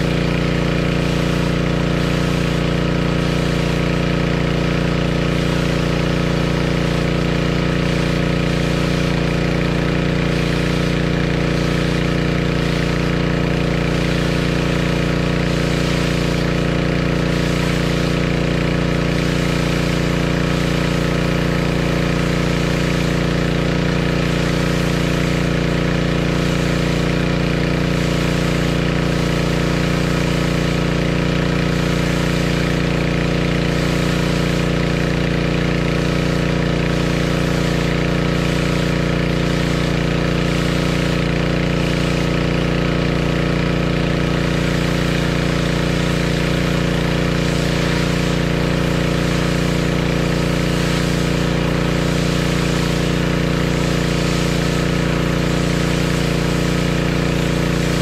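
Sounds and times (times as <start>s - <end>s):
pressure washer engine droning: 0.0s - 58.0s
water spraying onto concrete: 0.0s - 58.0s.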